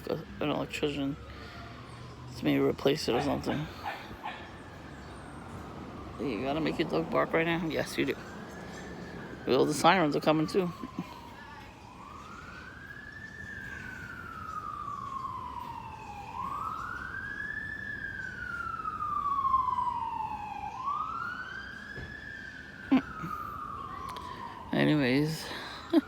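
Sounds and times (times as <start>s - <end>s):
emergency siren wailing: 0.0s - 26.0s.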